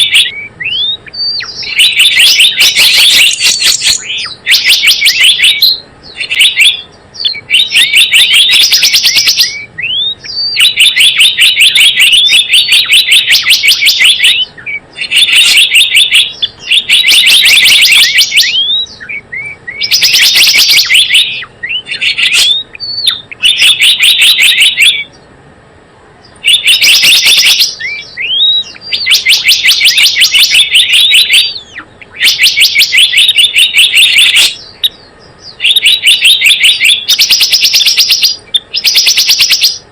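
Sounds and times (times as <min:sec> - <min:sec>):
bird call rapid high chirps: 0:00.0 - 0:25.4, 0:26.2 - 0:39.9.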